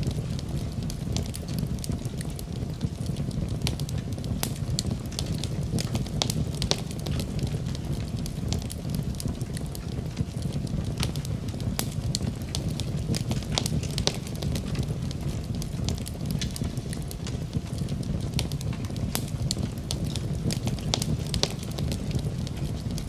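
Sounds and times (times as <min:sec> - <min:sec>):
burning wood crackling: 0:00.0 - 0:23.0
low rumble of flame: 0:00.0 - 0:23.0.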